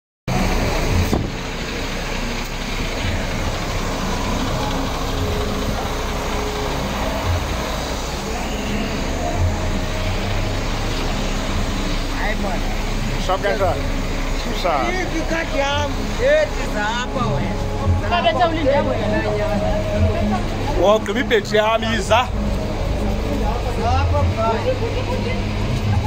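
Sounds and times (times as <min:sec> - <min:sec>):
diesel engines rumbling: 0:00.3 - 0:26.0
road traffic passing: 0:00.3 - 0:26.0.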